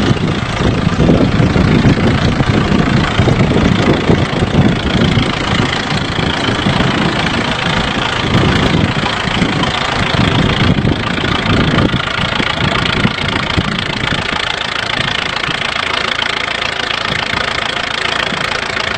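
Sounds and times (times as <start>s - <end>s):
welding machine engine running: 0.0s - 18.9s.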